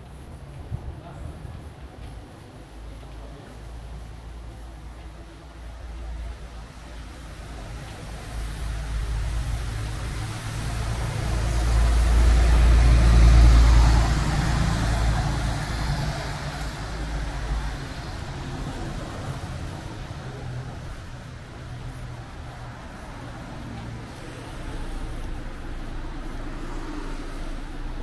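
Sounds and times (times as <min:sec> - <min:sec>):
bus driving past: 0:00.0 - 0:28.0
steady traffic noise: 0:00.0 - 0:28.0.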